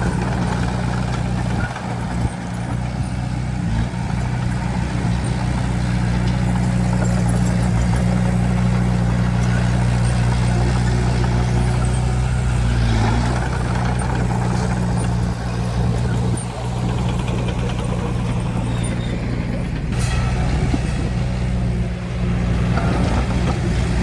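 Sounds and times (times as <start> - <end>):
earthmoving machine diesel engine: 0.0 - 24.0.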